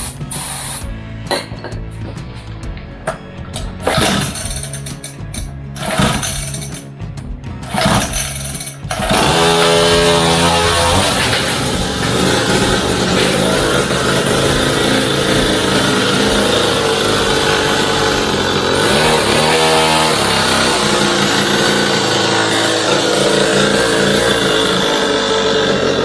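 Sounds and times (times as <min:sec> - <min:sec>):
dirt bike engine running loudly: 0:00.0 - 0:26.0.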